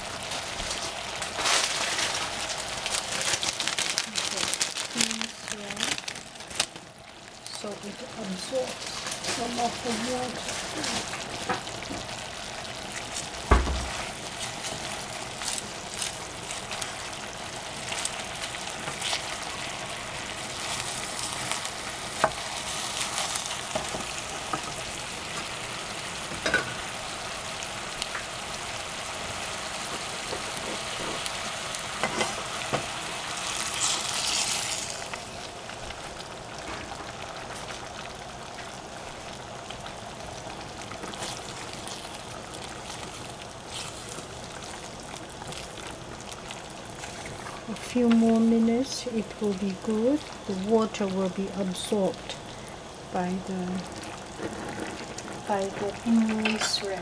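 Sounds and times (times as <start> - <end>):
vegetables sizzling in a pan: 0.0 - 57.0.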